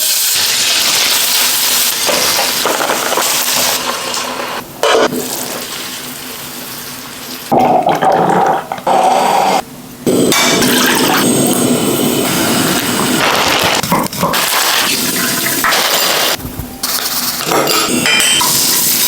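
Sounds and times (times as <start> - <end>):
cooking hiss: 0.0 - 7.8, 8.8 - 19.0
loud kitchen sound: 0.0 - 19.0.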